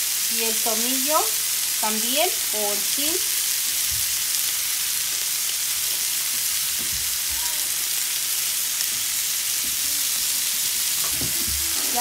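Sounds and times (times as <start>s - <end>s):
steaks sizzling in a pan: 0.0s - 12.0s.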